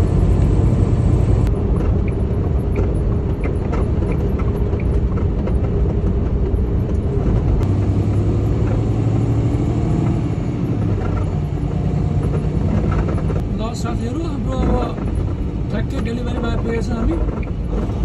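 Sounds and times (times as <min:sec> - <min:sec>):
diesel truck engine humming: 0:00.0 - 0:18.0
road rumble: 0:00.0 - 0:18.0.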